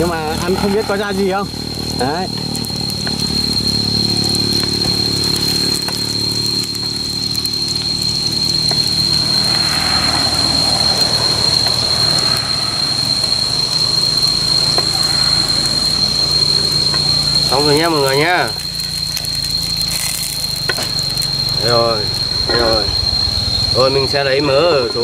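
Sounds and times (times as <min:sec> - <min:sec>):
tofu sizzling in fat: 0:00.0 - 0:23.4
high-pitched whine: 0:00.0 - 0:25.0
low hum: 0:00.0 - 0:25.0.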